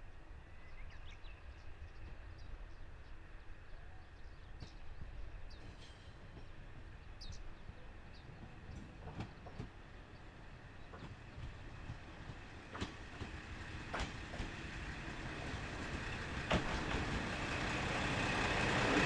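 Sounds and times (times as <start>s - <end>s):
diesel railcar rumbling: 0.8s - 19.0s.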